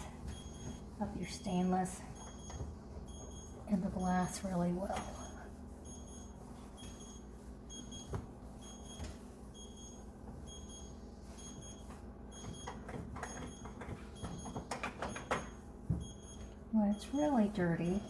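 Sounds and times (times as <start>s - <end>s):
faint cleaning knocks and rubs: 0.0s - 16.6s
timer alarm beeping: 0.0s - 18.0s.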